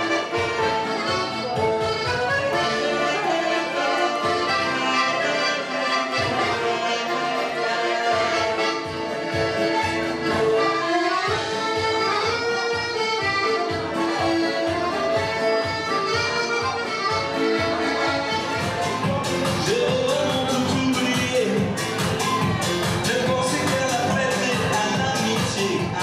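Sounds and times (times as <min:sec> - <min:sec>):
accordion dance music: 0:00.0 - 0:26.0.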